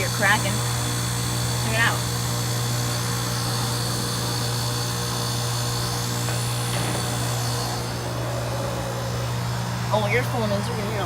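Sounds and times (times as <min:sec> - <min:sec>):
compressor low hum: 0:00.0 - 0:11.0.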